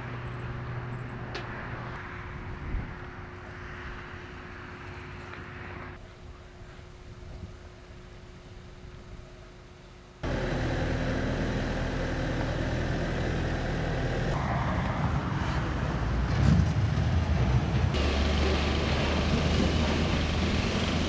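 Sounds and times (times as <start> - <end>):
traffic noise: 0.0 - 6.1, 10.2 - 21.0
engine hum: 0.0 - 7.1, 7.7 - 21.0.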